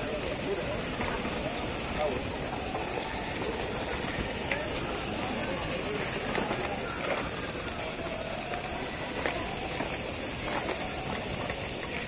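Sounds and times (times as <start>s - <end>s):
faint crowd chatter: 0.0s - 9.8s
cicadas singing: 0.0s - 12.0s.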